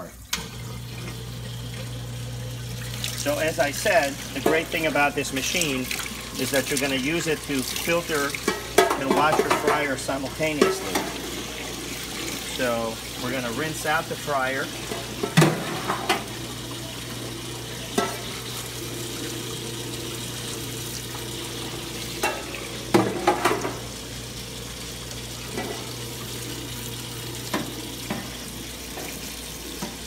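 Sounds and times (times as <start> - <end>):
pump motor hum: 0.0 - 30.0.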